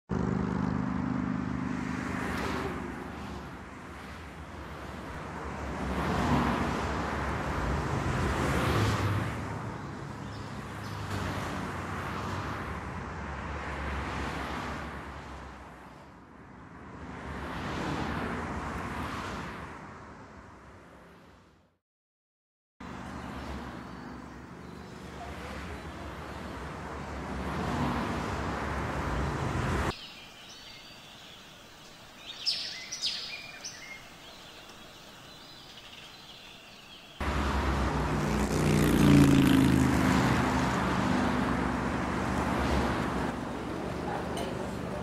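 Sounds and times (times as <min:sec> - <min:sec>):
cars passing: 0:00.1 - 0:21.8, 0:22.8 - 0:45.0.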